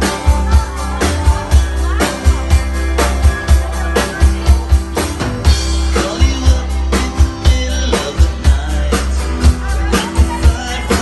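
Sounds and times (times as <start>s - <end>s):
bass guitar: 0.0s - 11.0s
drum kit beat: 0.0s - 11.0s
electric guitar: 0.0s - 11.0s.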